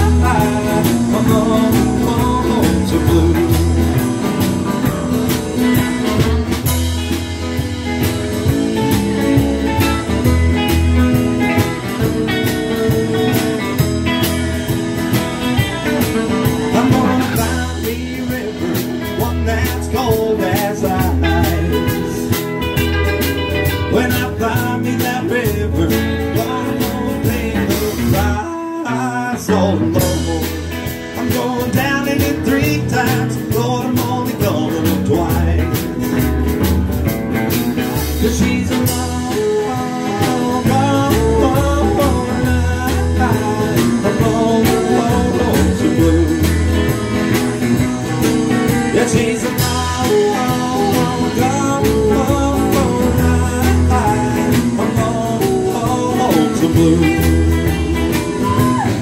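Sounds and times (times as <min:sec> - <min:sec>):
deep bass line: 0:00.0 - 0:28.5, 0:29.1 - 0:59.0
blues band playing: 0:00.0 - 0:59.0.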